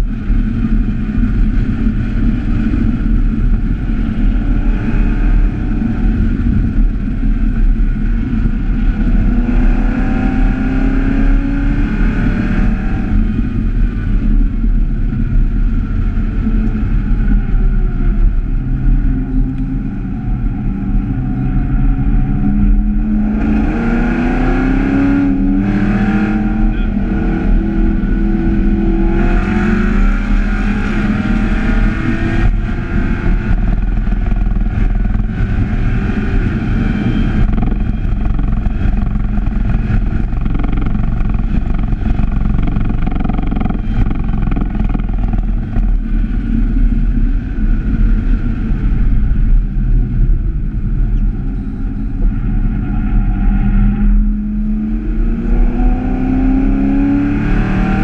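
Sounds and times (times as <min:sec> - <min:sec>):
car engine from inside cabin: 0:00.0 - 0:58.0
wind and road noise: 0:00.0 - 0:58.0.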